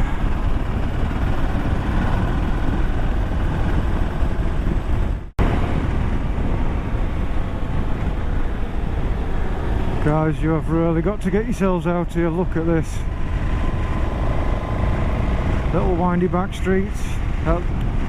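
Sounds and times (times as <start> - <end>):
motorcycle engine drone: 0.0 - 18.0
wind noise on microphone: 0.0 - 18.0.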